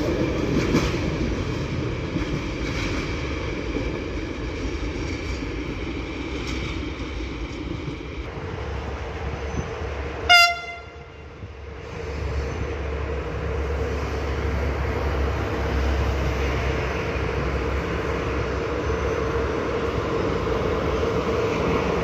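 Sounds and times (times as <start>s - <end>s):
train running past: 0.0s - 22.0s.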